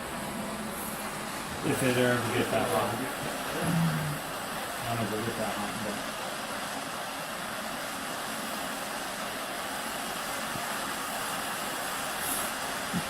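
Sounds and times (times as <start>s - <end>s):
gas torch flame hissing: 0.0s - 13.0s.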